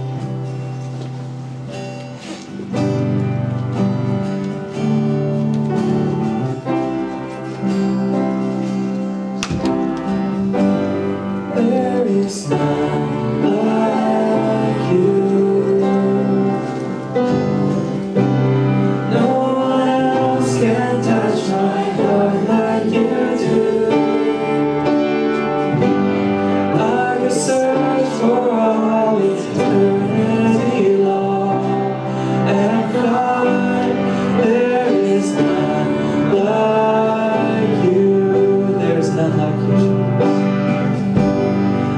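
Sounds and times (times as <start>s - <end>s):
worship band playing slow song: 0.0s - 41.9s.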